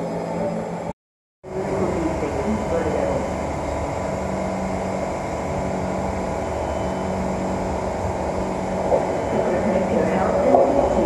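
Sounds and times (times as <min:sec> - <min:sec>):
train interior rumble: 0:00.0 - 0:11.0
constant low hum: 0:01.5 - 0:11.0.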